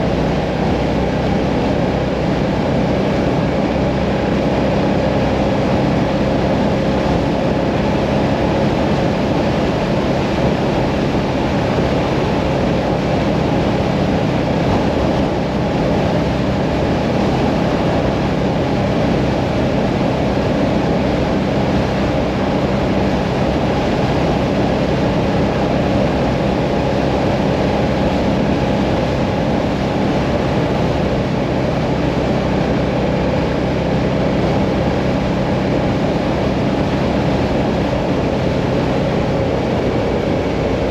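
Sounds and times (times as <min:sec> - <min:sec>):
motorcycle engine cruising: 0:00.0 - 0:40.9
wind and road noise: 0:00.0 - 0:40.9.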